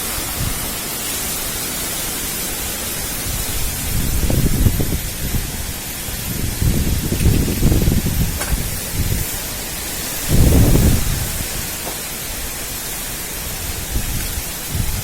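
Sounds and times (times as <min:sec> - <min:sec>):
strong wind blowing: 0:00.0 - 0:15.0
wind gusts buffeting microphone: 0:00.0 - 0:15.0.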